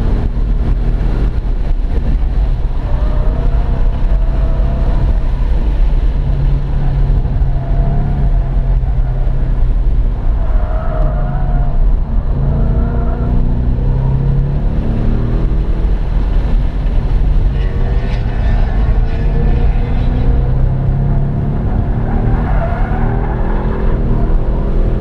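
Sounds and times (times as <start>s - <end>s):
car engine accelerating: 0.0s - 25.0s
road and wind noise: 0.0s - 25.0s.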